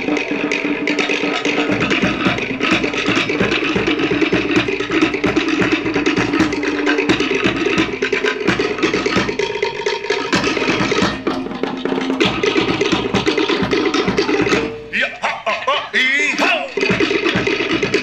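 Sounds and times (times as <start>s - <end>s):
skin bass drum: 0.0s - 18.0s
wooden slit drums: 0.0s - 18.0s.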